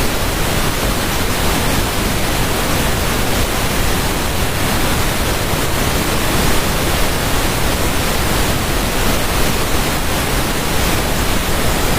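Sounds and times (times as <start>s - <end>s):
rushing water hiss: 0.0s - 11.9s.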